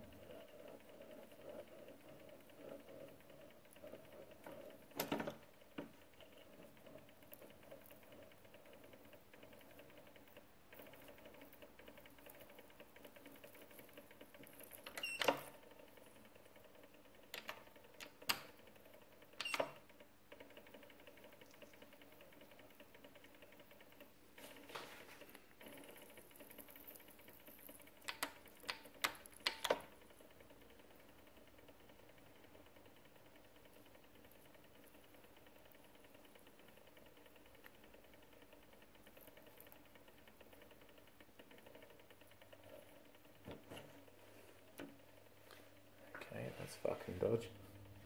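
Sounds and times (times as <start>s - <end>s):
bench mill hum: 0.0s - 48.0s.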